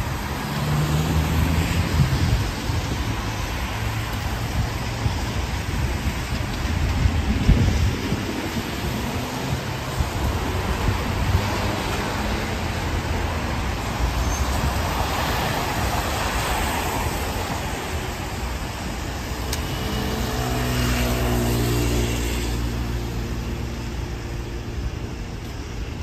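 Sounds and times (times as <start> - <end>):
road traffic on wet street: 0.0 - 26.0
tyre hiss of passing vehicle: 0.0 - 26.0.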